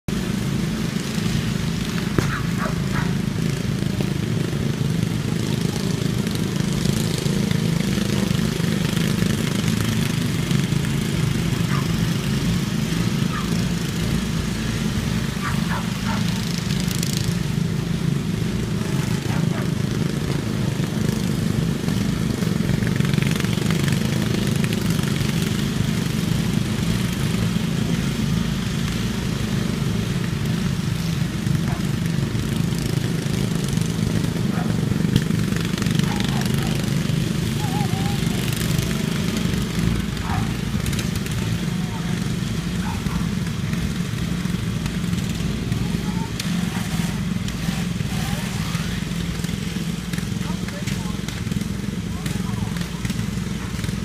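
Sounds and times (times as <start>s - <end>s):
lawn mower engines droning: 0.0s - 54.0s.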